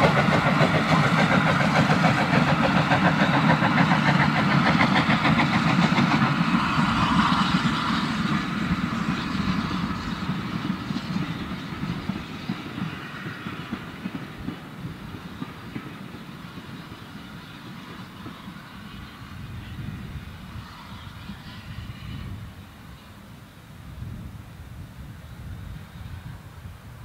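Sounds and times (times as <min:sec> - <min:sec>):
steam locomotive exhaust beats: 0:00.0 - 0:27.0.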